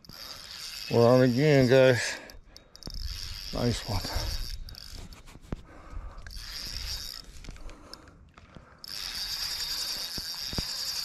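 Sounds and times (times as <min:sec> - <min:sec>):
fishing reel gears whirring: 0:00.0 - 0:08.2, 0:08.8 - 0:11.0.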